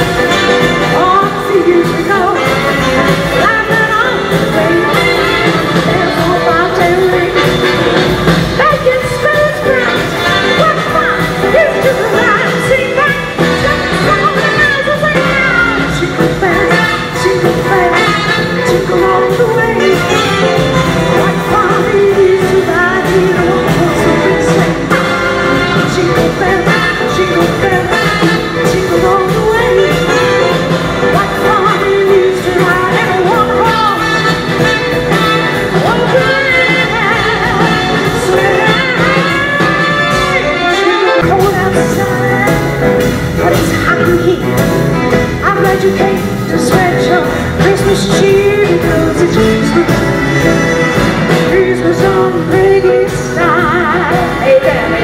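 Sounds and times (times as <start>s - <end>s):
woman singing into a microphone: 0.0s - 25.0s, 25.6s - 55.0s
amplified instrumental backing: 0.0s - 55.0s.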